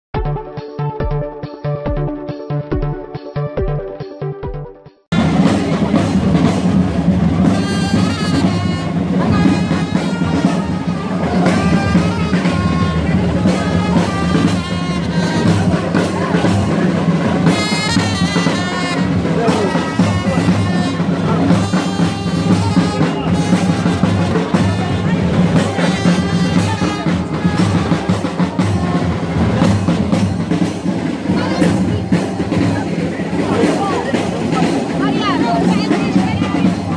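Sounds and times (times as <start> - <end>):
parade band drums and brass: 4.4 - 36.9
crowd chatter: 5.1 - 36.9.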